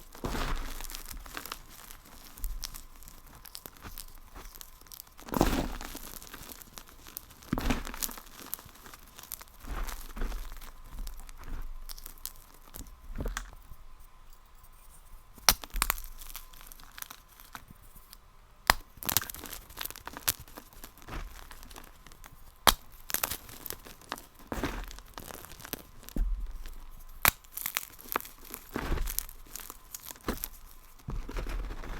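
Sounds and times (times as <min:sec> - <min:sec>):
brittle material crunching: 0:00.0 - 0:13.8, 0:15.3 - 0:17.7, 0:18.7 - 0:31.9.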